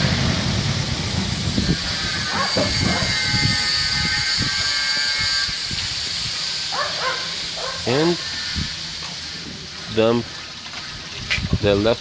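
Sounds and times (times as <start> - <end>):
vacuum pump hiss and whine: 0.6 - 12.0.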